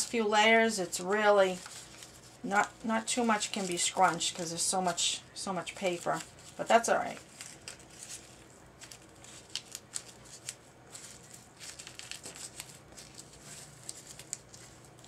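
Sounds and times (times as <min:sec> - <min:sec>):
paper crinkling: 0:00.0 - 0:15.0.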